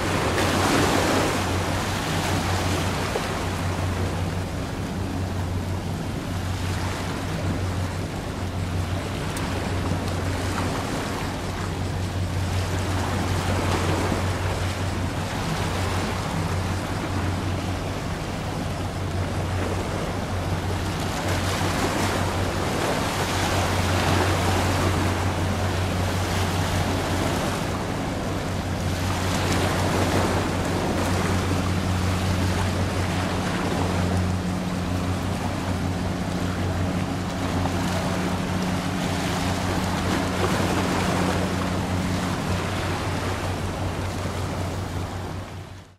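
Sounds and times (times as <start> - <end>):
low drone of ship engines: 0.0 - 45.9
water washing at shoreline: 0.0 - 45.9.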